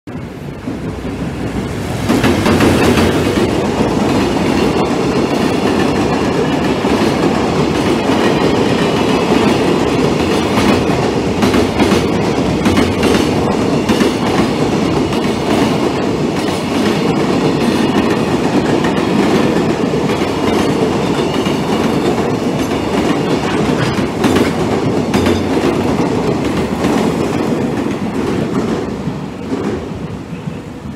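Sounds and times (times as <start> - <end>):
train wheels rumbling on rails: 0.1 - 30.9
wheels clacking over rail joints: 0.2 - 29.8.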